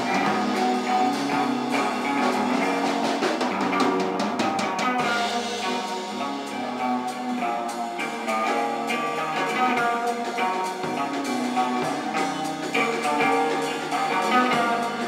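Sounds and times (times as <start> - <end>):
drum kit: 0.0 - 15.0
electric guitars ringing: 0.0 - 15.0.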